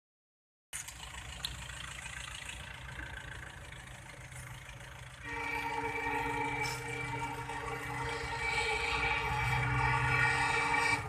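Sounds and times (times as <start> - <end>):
locomotive engine rumbling: 0.8 - 11.0.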